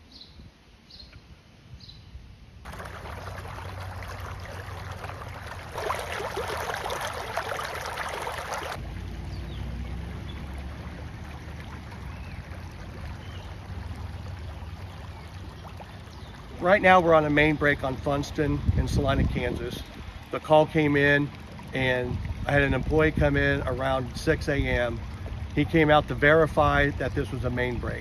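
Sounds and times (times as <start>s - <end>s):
low steady rumble: 2.6s - 28.0s
water rushing along gutter: 2.6s - 28.0s.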